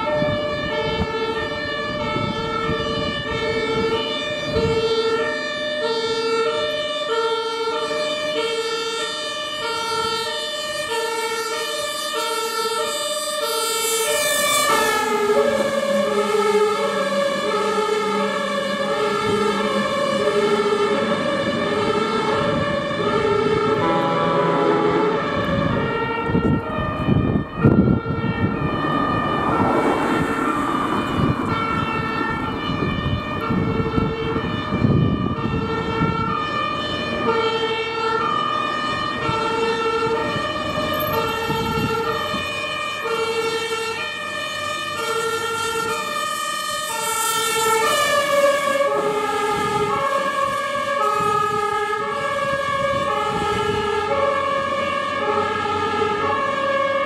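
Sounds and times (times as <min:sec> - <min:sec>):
fire truck engine and tyres: 0:00.0 - 0:57.0
two-tone fire engine siren: 0:00.0 - 0:57.0.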